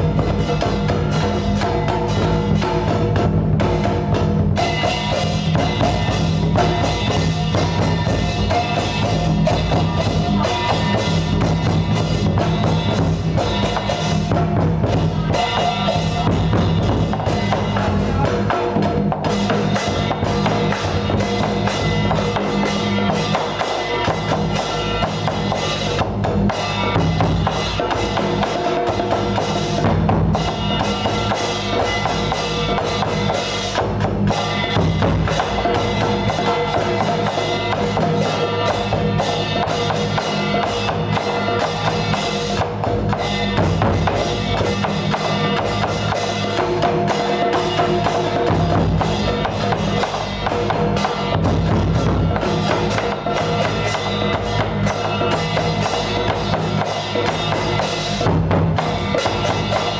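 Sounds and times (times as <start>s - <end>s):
drums: 0.0s - 59.9s.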